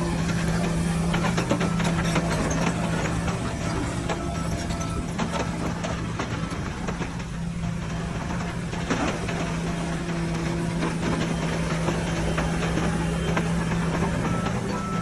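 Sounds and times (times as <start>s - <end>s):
diesel engine drone: 0.0s - 15.0s.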